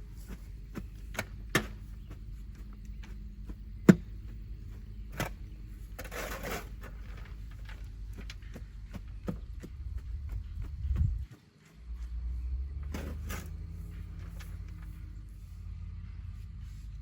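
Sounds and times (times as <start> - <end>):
low steady hum: 0.0 - 11.3, 11.9 - 17.0.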